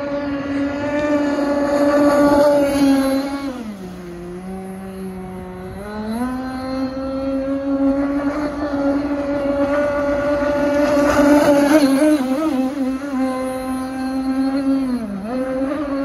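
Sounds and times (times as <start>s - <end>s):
two-stroke boat engine running hard: 0.0s - 16.0s.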